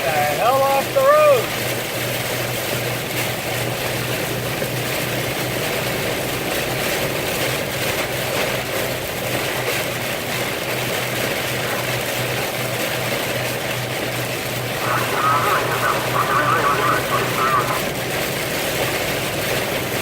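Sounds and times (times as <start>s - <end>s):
heavy rain on car: 0.0s - 20.0s
low engine hum: 0.0s - 20.0s
tyres on wet road: 0.0s - 20.0s.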